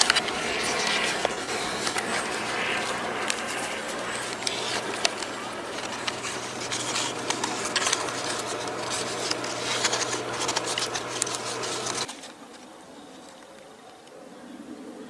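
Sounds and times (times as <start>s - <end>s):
steady low hum: 0.0s - 12.1s
bark crackling in hands: 0.0s - 13.6s.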